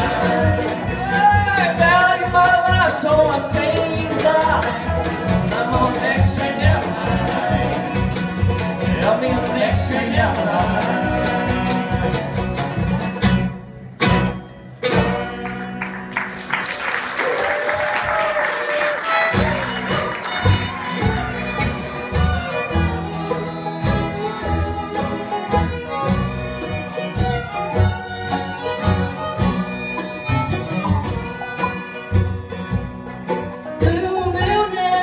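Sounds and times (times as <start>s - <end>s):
bluegrass band playing: 0.0s - 35.0s.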